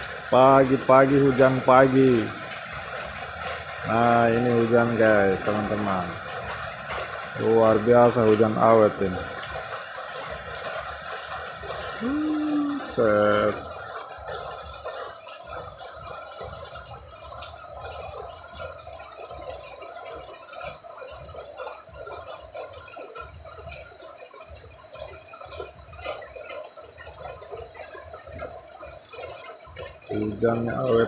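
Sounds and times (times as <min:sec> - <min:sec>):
steady rain falling: 0:00.0 - 0:31.0
water drips and splashes: 0:00.0 - 0:31.0.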